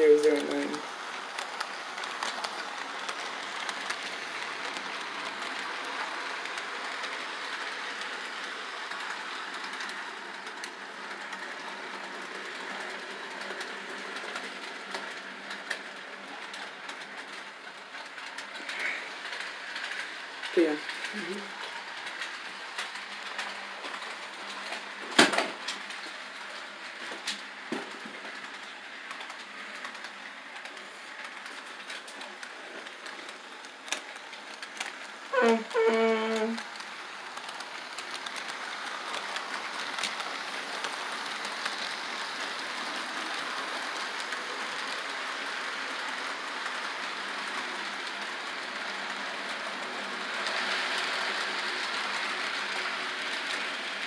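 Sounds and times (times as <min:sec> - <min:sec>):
model train rattling: 0:00.0 - 0:54.0.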